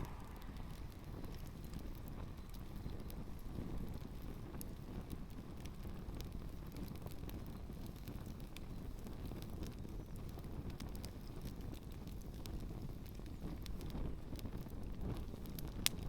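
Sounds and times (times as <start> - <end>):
campfire crackling and popping: 0.0 - 16.0
wind rumble on microphone: 0.0 - 16.0.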